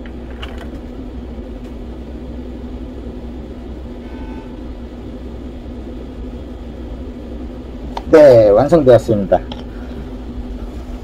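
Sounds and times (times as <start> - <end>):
machine hum and rumble: 0.0 - 11.0.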